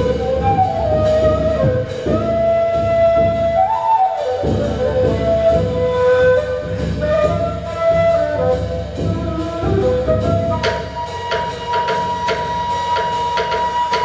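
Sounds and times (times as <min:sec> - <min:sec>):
end-blown reed flute melody: 0:00.0 - 0:14.0
steady drum beat: 0:00.0 - 0:14.0.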